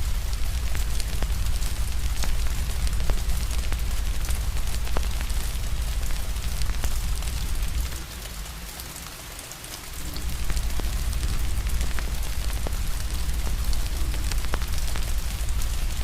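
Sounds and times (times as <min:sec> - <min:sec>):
low rumble: 0:00.0 - 0:08.0, 0:10.0 - 0:16.0
fire crackling: 0:00.0 - 0:08.7, 0:09.9 - 0:16.0
steady rain: 0:00.0 - 0:16.0.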